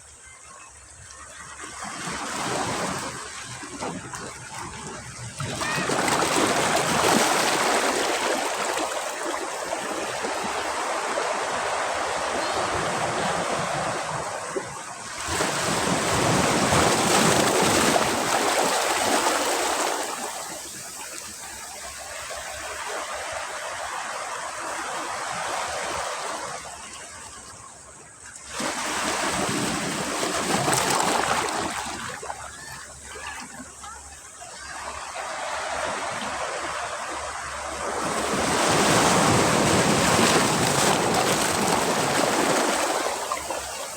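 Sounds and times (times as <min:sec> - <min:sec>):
sea waves breaking on beach: 0:01.3 - 0:43.9.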